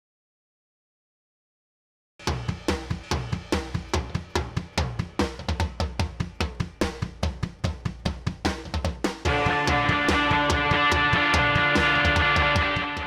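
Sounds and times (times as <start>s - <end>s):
fast drum beat with bass line: 2.2s - 13.0s.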